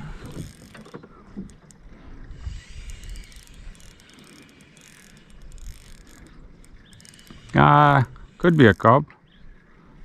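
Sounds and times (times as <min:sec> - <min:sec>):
fishing reel clicking: 0:00.0 - 0:09.0
wind and water rumble: 0:00.0 - 0:10.0.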